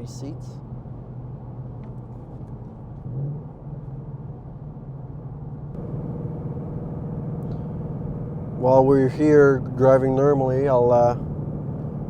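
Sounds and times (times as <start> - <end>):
car engine cruising from inside: 0.5 - 12.0.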